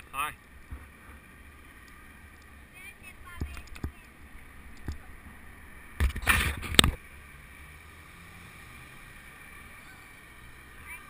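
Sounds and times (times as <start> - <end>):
tyres rolling hum: 0.0 - 11.0.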